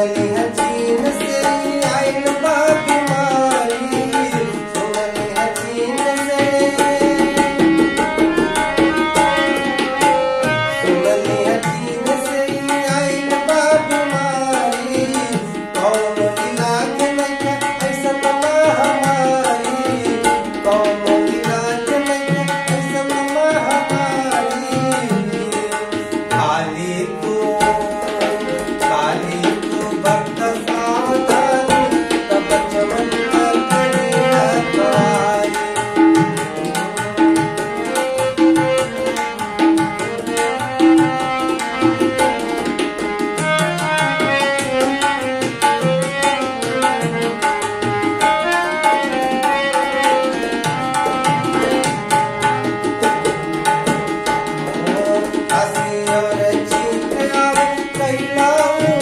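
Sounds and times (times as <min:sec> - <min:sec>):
fast tabla rhythm: 0:00.0 - 0:59.0.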